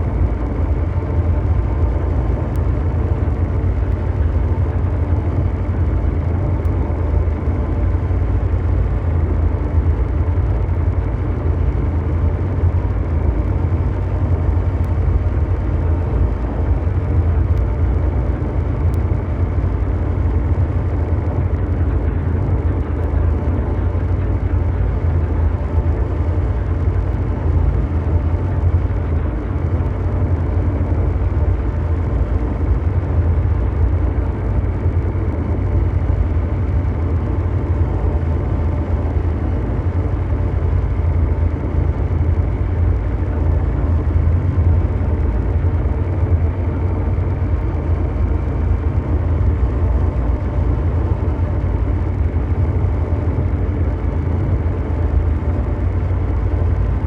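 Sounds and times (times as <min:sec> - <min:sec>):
deep mechanical drone: 0:00.0 - 0:57.0.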